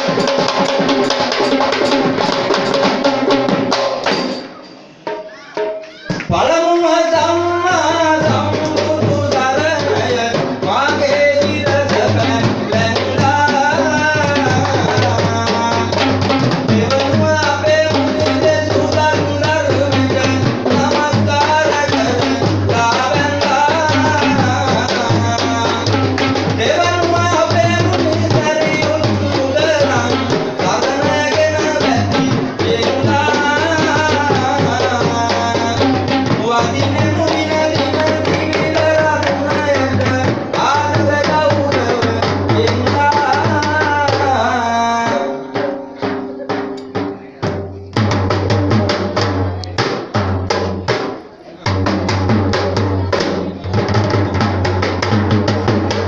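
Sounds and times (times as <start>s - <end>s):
traditional drums ensemble: 0.0s - 56.0s.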